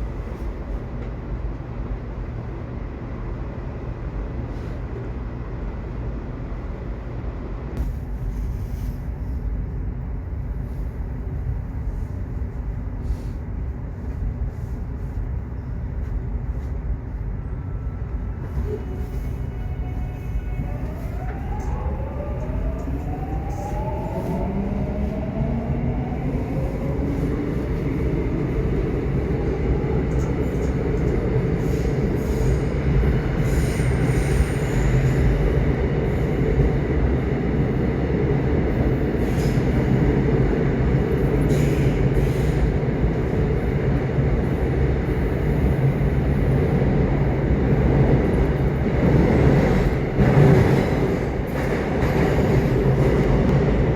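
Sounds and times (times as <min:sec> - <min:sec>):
subway train running: 0:00.0 - 0:53.9.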